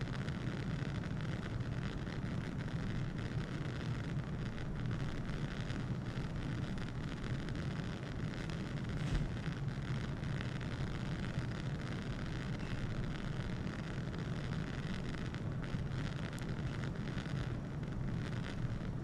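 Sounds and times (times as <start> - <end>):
bunsen burner flame rushing: 0.4 - 19.0.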